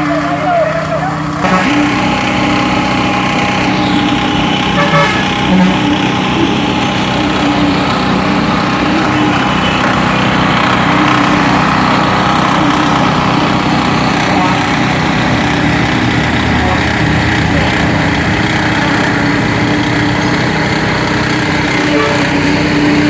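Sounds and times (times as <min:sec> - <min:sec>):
heavy vehicle engines running: 0:00.0 - 0:23.0.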